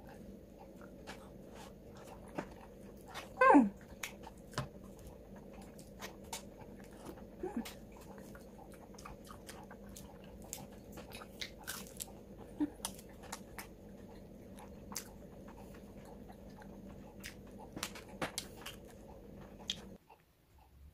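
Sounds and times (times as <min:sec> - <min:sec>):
chewing and crunching food: 0:00.0 - 0:20.8
steady low hum: 0:00.0 - 0:20.9.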